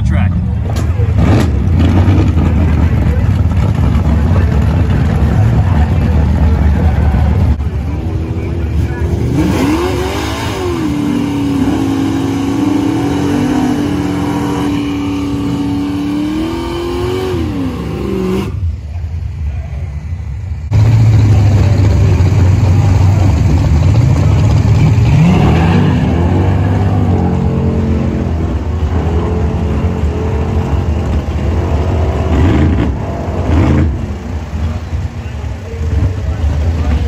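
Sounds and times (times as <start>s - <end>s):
car engine revving: 0.0s - 19.0s, 20.7s - 37.0s
engine rumbling: 0.0s - 37.0s.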